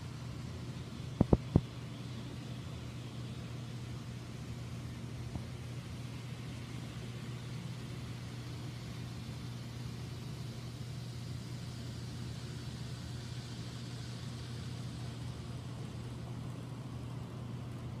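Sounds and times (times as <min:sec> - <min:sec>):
model train humming: 0:00.0 - 0:18.0.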